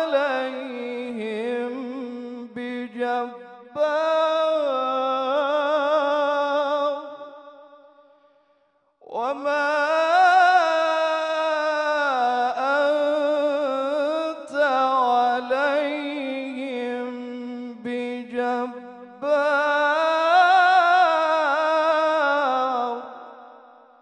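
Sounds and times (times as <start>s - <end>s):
man reciting melodically: 0.0s - 7.8s, 9.0s - 23.8s.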